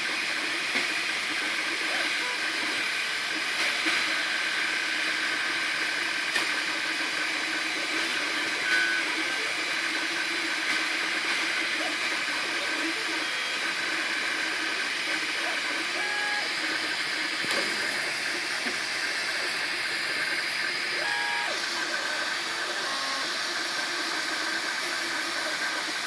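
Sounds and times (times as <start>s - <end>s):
printer fan hiss: 0.0s - 26.0s.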